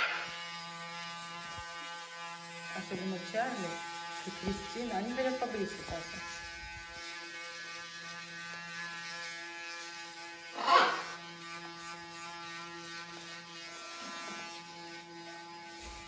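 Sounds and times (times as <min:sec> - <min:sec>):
electric shaver buzzing: 0:00.0 - 0:16.0.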